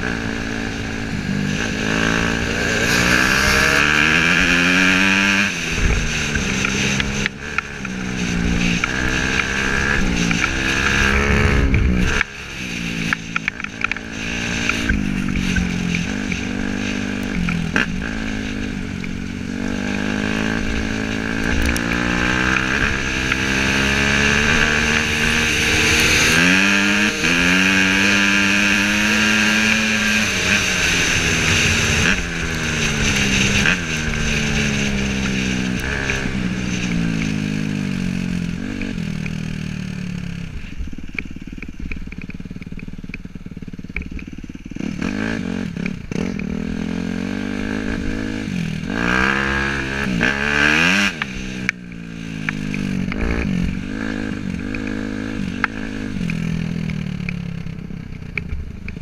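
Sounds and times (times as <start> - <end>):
dirt bike engine revving: 0.0 - 42.8, 43.4 - 57.6
second dirt bike engine: 0.0 - 59.0.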